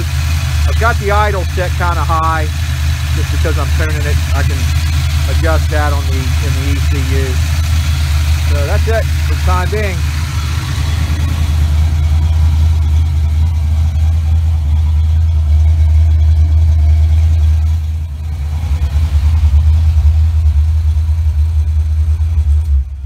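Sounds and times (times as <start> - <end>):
car engine idling high: 0.0 - 23.0.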